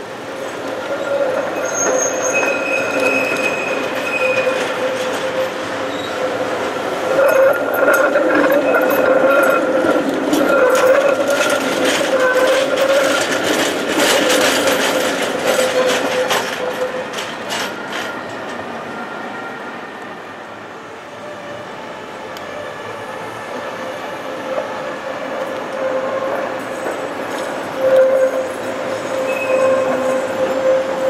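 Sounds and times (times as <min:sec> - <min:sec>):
tram clattering over track joints: 0:00.0 - 0:20.1, 0:21.2 - 0:31.0
tram wheels whining: 0:00.0 - 0:31.0.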